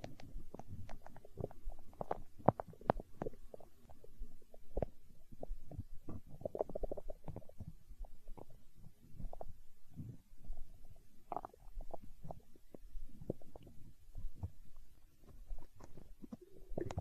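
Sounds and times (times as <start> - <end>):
stomach gurgling and growling: 0.0 - 17.0.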